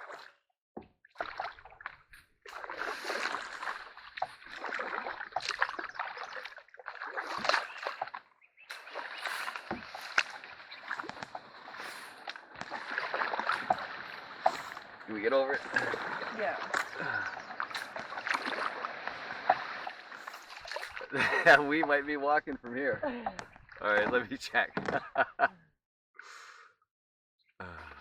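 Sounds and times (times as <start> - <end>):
paddle strokes splashing: 1.2 - 22.1, 22.7 - 25.2
water sloshing: 1.2 - 25.4.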